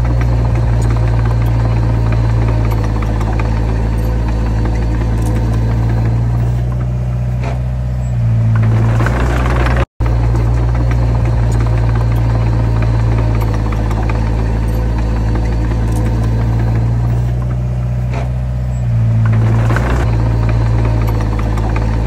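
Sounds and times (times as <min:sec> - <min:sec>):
heavy diesel engine humming: 0:00.0 - 0:22.0.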